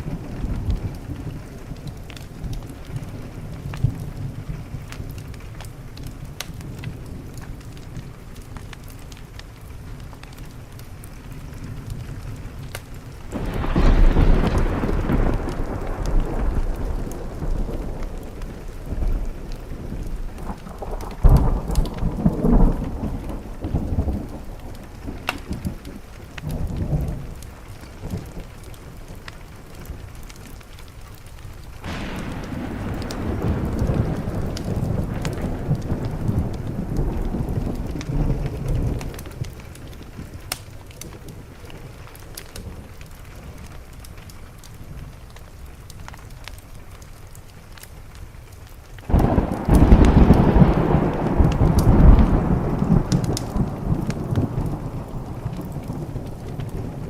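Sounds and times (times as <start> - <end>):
thunder rumbling: 0.0 - 45.8, 49.1 - 57.0
rain pattering on a window: 0.0 - 57.0
wood fire crackling: 0.0 - 57.0.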